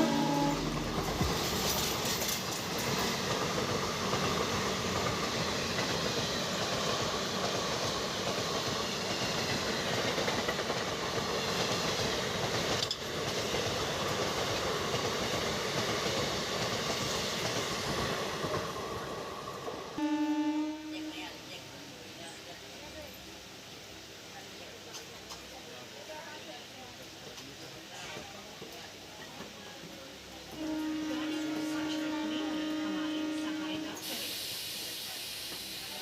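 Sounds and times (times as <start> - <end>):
electric train rolling on rails: 0.0 - 36.0.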